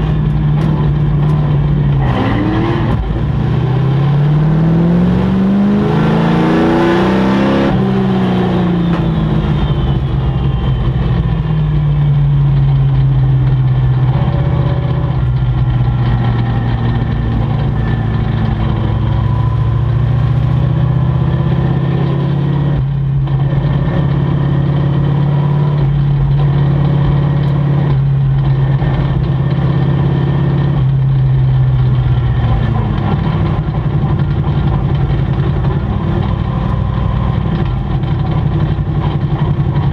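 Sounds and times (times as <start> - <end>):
racing truck engine running hard: 0.0 - 39.9.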